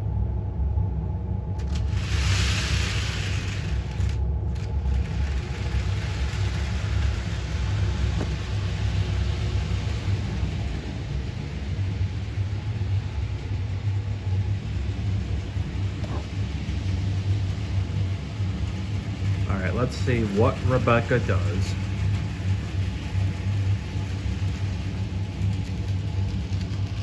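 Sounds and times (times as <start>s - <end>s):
model train motor rumbling: 1.6s - 27.0s.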